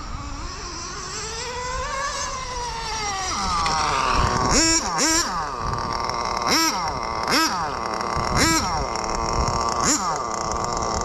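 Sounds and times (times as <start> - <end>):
engine throttle blips: 0.0 - 11.0
small nitro engine buzzing: 0.0 - 11.0.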